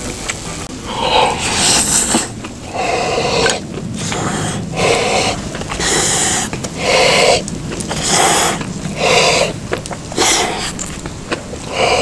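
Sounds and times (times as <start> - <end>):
man chewing: 0.8 - 12.0
man puffing breath: 0.8 - 12.0.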